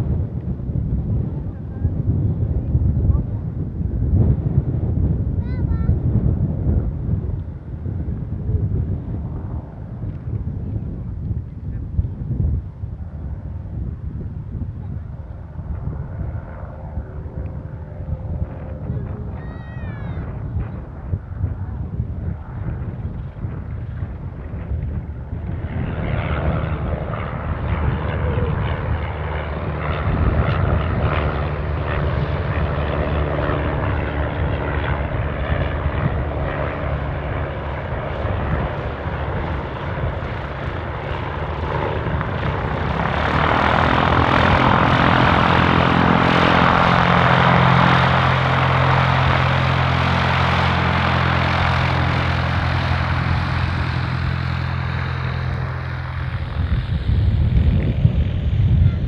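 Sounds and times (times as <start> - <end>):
propeller plane engine idling: 0.0 - 59.0
propeller plane taking off: 0.0 - 59.0.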